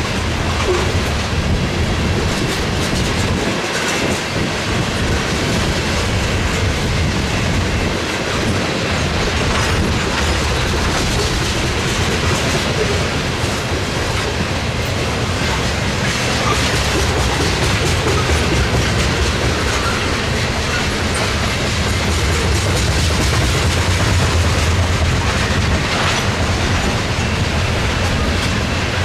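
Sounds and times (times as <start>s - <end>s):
freight train rumble: 0.0s - 29.0s
wheels clicking over rail joints: 0.0s - 29.0s.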